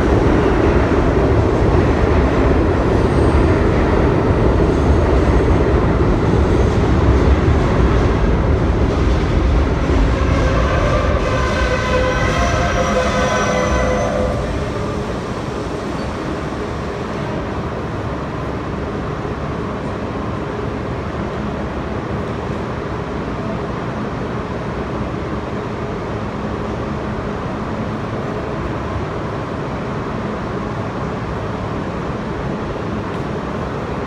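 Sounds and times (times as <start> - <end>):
subway trains rumbling: 0.0 - 34.0.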